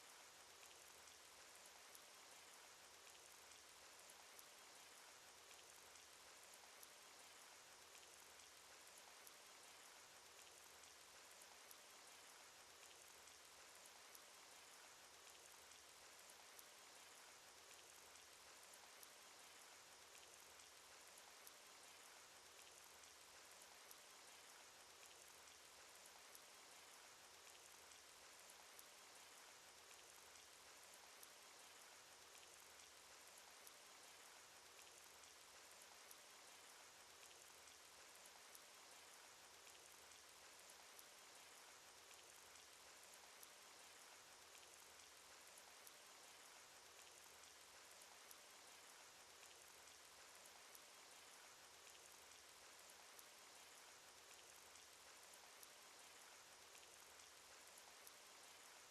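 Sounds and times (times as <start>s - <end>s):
rain patter: 0.0s - 58.9s.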